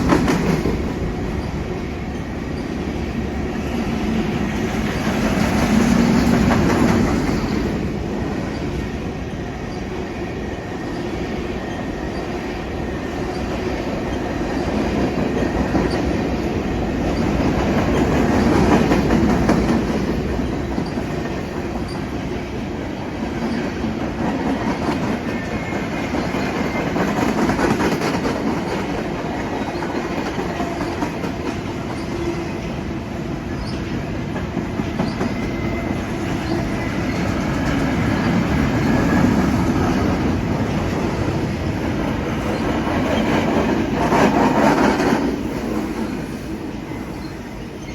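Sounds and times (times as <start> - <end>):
wheels clacking over rail joints: 0.0 - 3.1, 4.1 - 9.1, 13.2 - 46.2
freight train rumbling: 0.0 - 47.9.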